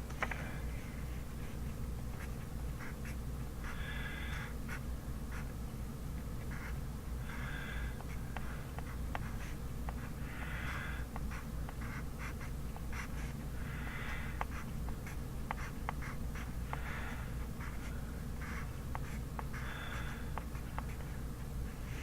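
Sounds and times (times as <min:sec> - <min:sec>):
steady low hum: 0:00.0 - 0:22.0
pen scratching on paper: 0:01.2 - 0:05.5, 0:06.4 - 0:22.0.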